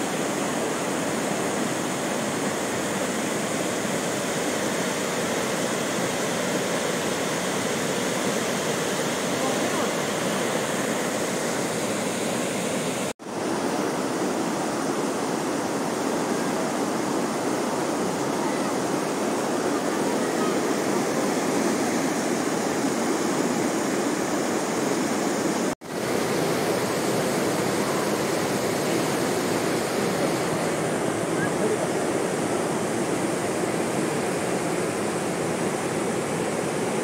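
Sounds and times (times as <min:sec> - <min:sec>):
river water rushing over rapids: 0:00.0 - 0:37.0.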